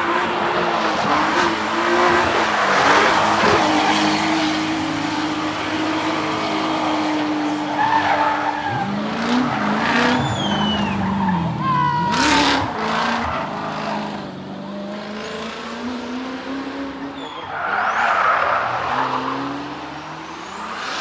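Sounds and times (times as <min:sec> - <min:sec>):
race car engine at high revs: 0:00.0 - 0:21.0
tyres squealing and skidding: 0:00.0 - 0:21.0.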